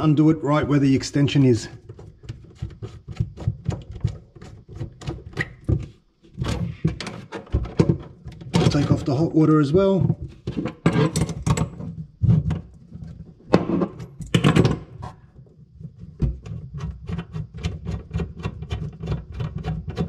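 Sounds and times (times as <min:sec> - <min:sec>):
metal knocks and scrapes: 0:00.9 - 0:20.0.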